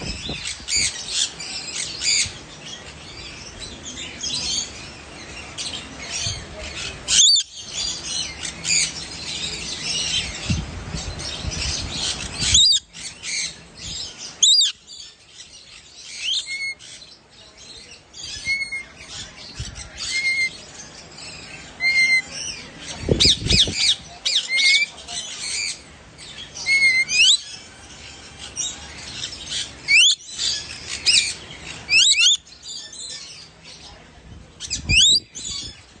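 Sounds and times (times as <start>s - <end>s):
lorikeets screeching: 0.0s - 17.2s, 18.0s - 34.0s, 34.6s - 36.0s.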